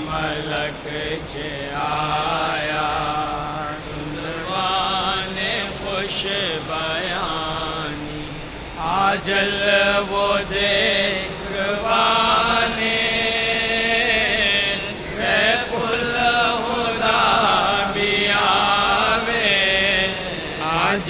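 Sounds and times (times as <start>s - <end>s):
person chanting: 0.0s - 21.0s.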